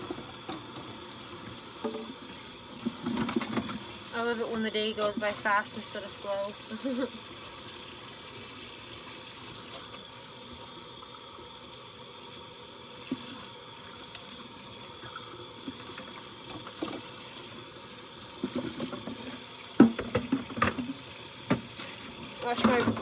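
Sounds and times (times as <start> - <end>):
faucet running into sink: 0.0 - 23.0.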